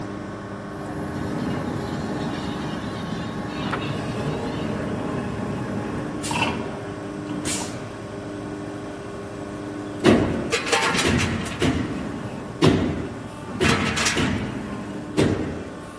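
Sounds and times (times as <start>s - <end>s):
hydraulic pump humming: 0.0s - 15.9s.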